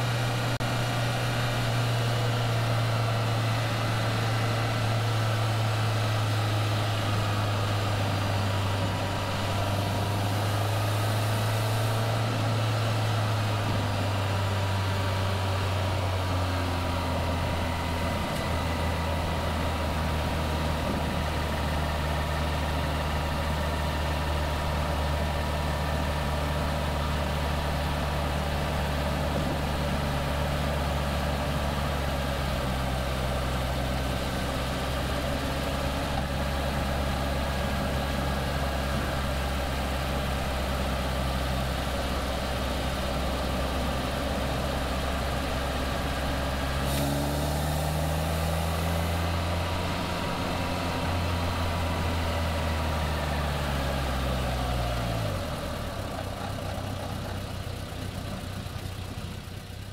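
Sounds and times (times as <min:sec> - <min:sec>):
car engine pulling at speed: 0:00.0 - 0:59.9
wind and road noise: 0:00.0 - 0:59.9.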